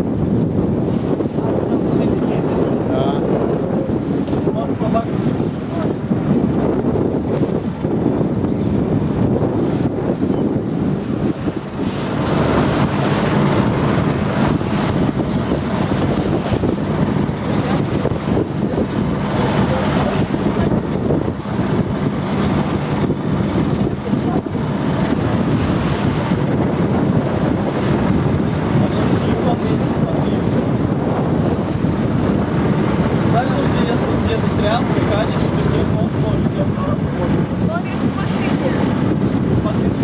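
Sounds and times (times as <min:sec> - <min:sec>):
boat engine running: 0:00.0 - 0:40.0
water rushing along hull: 0:00.0 - 0:40.0
wind buffeting microphone: 0:00.0 - 0:40.0.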